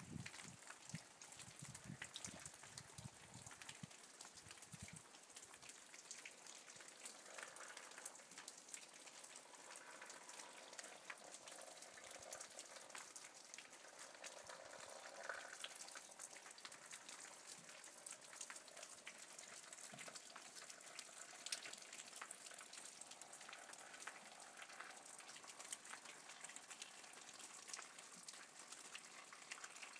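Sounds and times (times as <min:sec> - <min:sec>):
light rain: 0:00.0 - 0:29.9.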